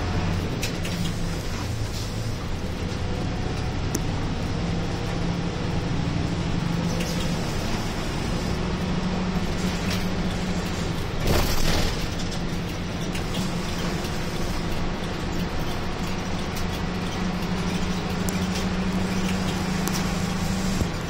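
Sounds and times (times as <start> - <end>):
bus diesel engine drone: 0.0 - 21.0
road noise: 0.0 - 21.0.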